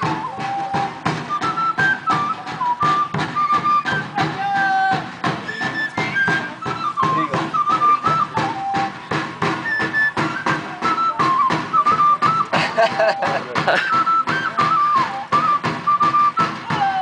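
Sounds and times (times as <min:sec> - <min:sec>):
drum struck with a stick: 0:00.0 - 0:17.0
flute melody: 0:00.0 - 0:17.0.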